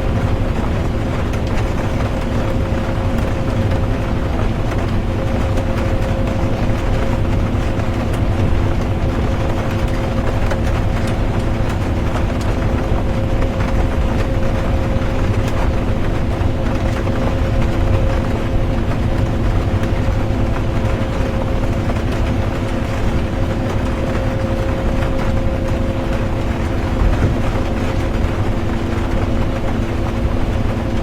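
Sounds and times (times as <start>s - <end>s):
bus engine and road rumble: 0.0s - 31.0s
constant hum: 0.0s - 31.0s.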